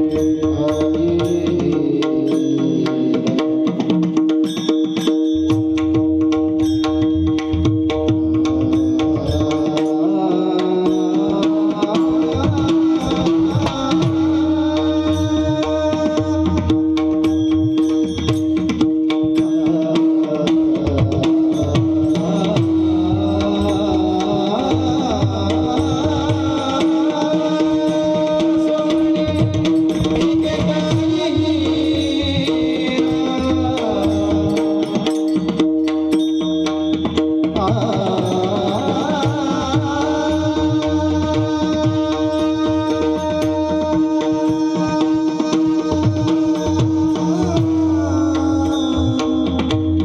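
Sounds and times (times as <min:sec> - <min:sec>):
person singing with vibrato: 0:00.0 - 0:04.0, 0:08.6 - 0:18.2, 0:19.3 - 0:35.6, 0:37.4 - 0:50.0
barrel drum rhythm: 0:00.0 - 0:50.0.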